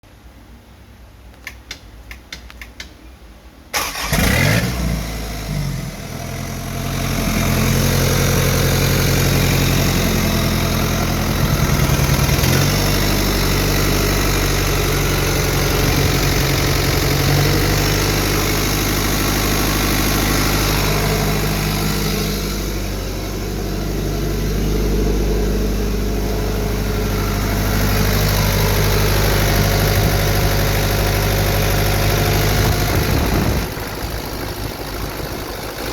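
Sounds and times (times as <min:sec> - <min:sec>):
diesel engine starting and idling: 0:03.7 - 0:35.9.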